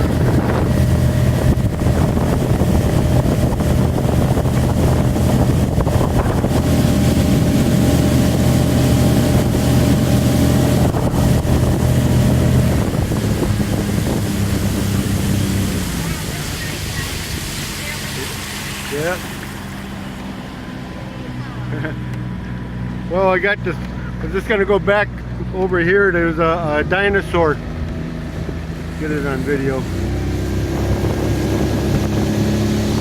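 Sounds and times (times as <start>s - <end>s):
outboard motor running: 0.0s - 33.0s
water rushing: 0.0s - 33.0s
wind: 0.0s - 33.0s.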